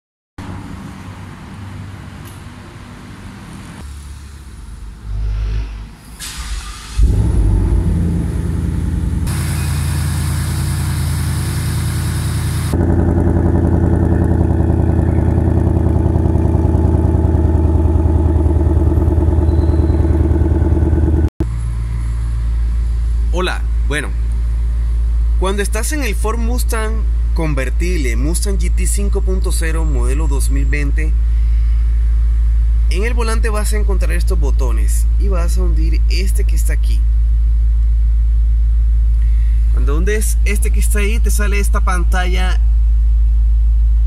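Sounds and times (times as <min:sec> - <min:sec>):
engine and exhaust running: 0:04.2 - 0:29.6, 0:30.8 - 0:44.0.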